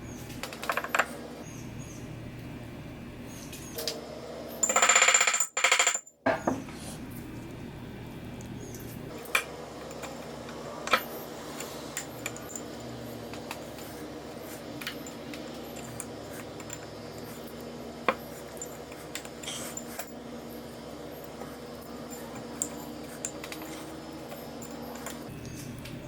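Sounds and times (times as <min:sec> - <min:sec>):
steady low hum: 0:00.0 - 0:05.0, 0:06.2 - 0:26.0.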